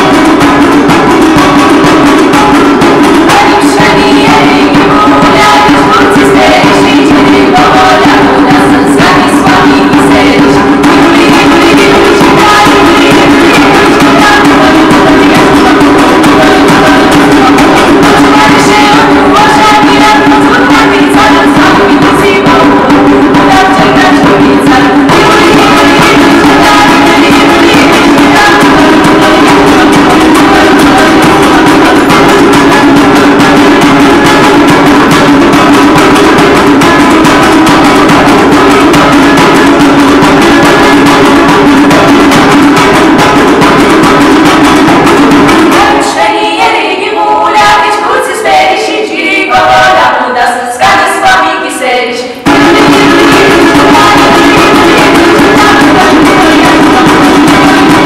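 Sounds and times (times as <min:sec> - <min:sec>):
hand drum beaten fast: 0:00.0 - 0:51.8, 0:52.4 - 0:58.0
women singing together: 0:00.0 - 0:58.0.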